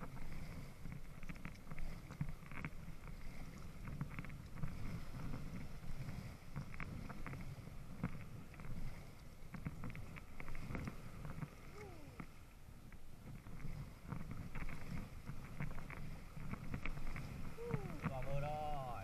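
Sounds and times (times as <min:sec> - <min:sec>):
low steady rumble: 0:00.0 - 0:19.0
water lapping against raft floats: 0:00.0 - 0:19.0.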